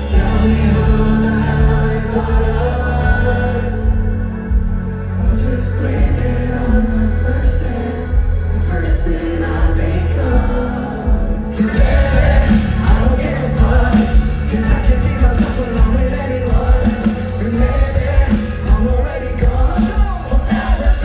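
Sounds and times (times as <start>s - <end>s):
metalcore band playing live: 0.0s - 21.0s
person singing: 0.0s - 21.0s.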